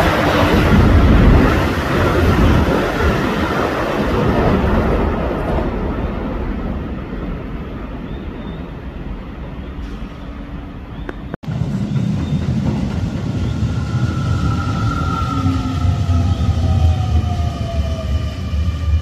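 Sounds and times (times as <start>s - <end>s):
electric train rumbling on rails: 0.0s - 19.0s.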